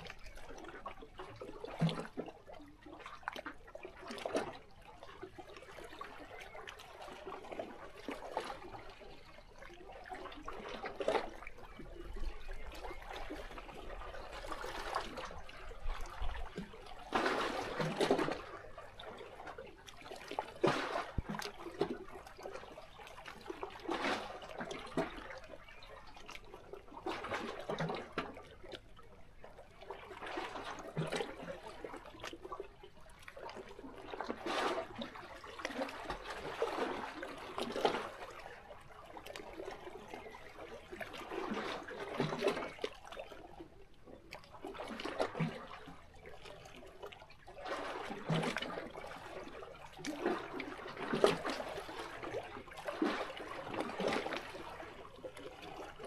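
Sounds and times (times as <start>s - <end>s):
waves lapping against rocks: 0.0s - 56.0s.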